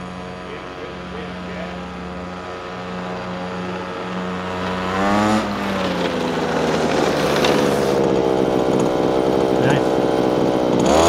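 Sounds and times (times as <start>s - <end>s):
small two-stroke engine running: 0.0s - 11.0s.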